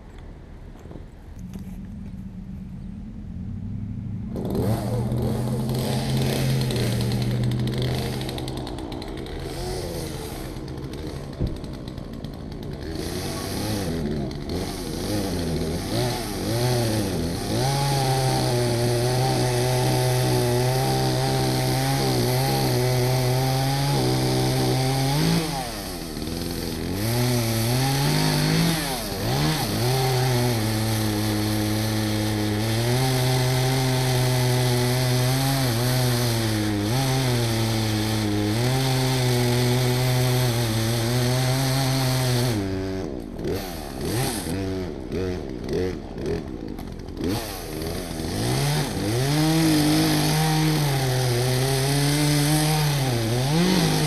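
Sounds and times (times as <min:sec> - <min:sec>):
chainsaw cutting tree trunk: 0:04.2 - 0:54.0.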